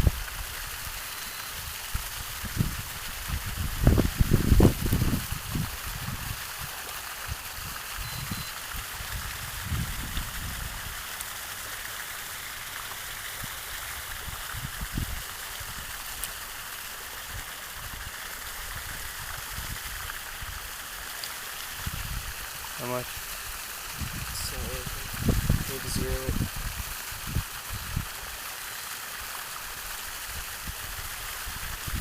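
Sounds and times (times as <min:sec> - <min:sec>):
running water hiss: 0:00.0 - 0:32.0.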